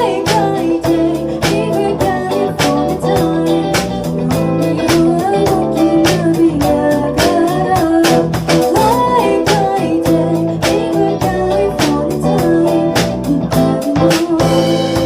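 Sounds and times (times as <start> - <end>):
pop band music: 0.0 - 15.0.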